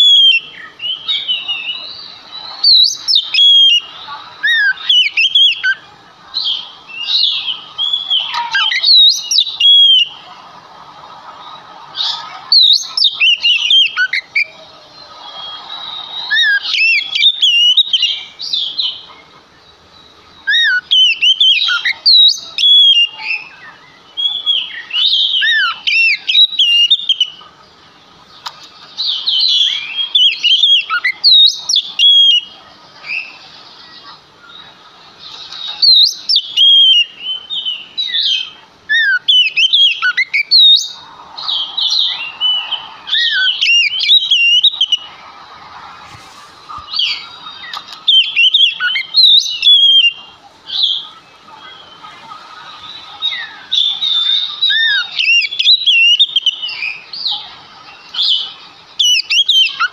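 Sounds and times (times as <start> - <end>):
bird singing whistled phrases: 0.0 - 10.3, 11.5 - 19.1, 20.4 - 27.4, 29.0 - 34.6, 35.4 - 45.2, 46.8 - 57.4, 58.0 - 59.9.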